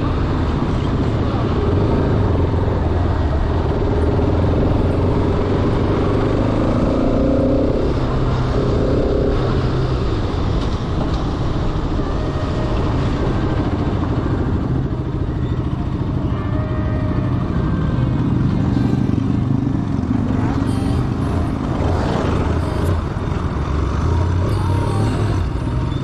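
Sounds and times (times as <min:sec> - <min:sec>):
motorcycle engine running: 0:00.0 - 0:26.0
road and wind noise: 0:00.0 - 0:26.0.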